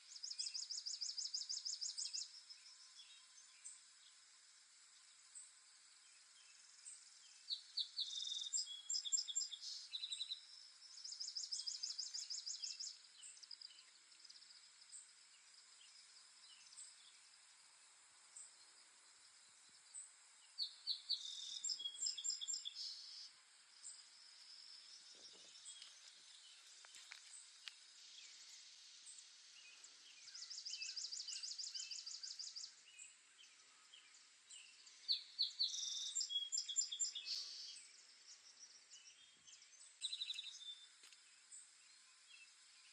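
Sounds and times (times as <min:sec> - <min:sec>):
songbirds singing trills: 0:00.0 - 0:17.5, 0:18.3 - 0:42.9
faint steady hiss: 0:00.0 - 0:42.9.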